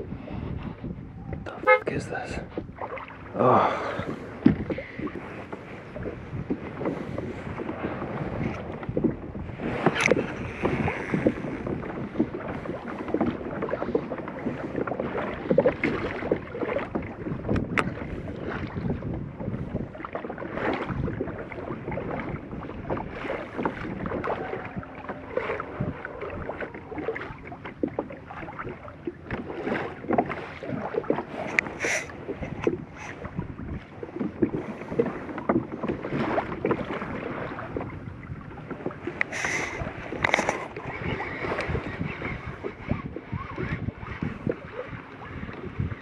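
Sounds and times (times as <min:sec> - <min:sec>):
water lapping against kayak hull: 0:00.0 - 0:46.0.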